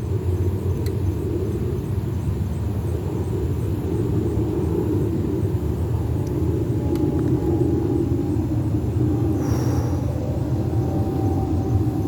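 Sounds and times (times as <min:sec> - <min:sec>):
jet airplane flying overhead: 0:00.0 - 0:12.0.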